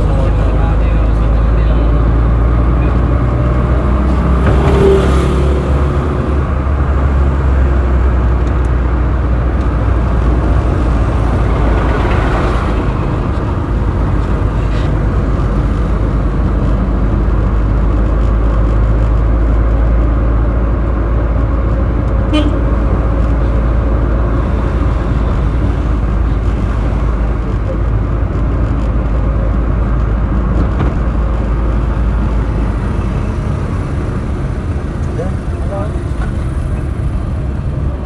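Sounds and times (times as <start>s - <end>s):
engine and road rumble: 0.0s - 38.0s
passing vehicles: 0.0s - 38.0s.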